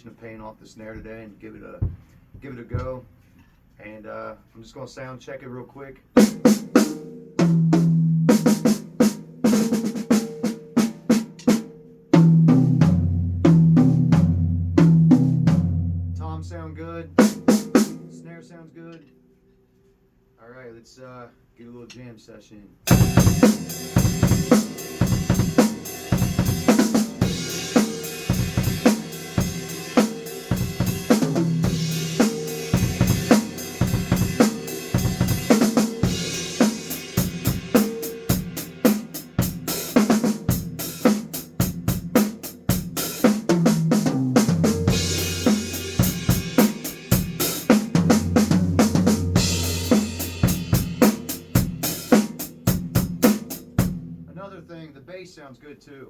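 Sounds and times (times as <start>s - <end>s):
drum kit groove: 0.8s - 3.2s, 6.2s - 19.2s, 22.8s - 54.8s.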